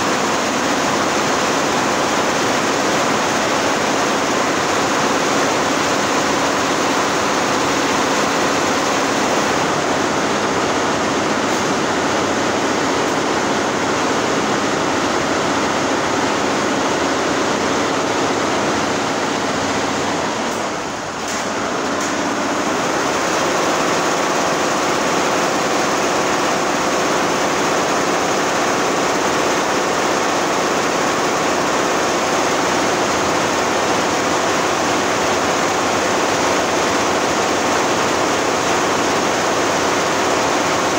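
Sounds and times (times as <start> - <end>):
embroidery machines running: 0.0 - 40.9.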